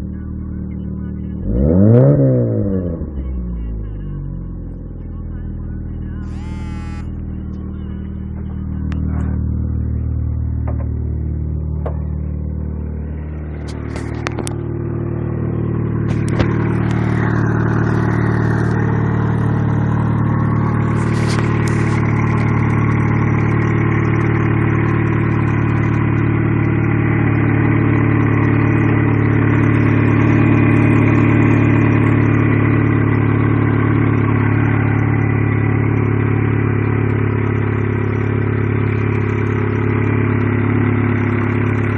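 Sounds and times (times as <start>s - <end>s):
car engine high idle: 0.0s - 41.9s.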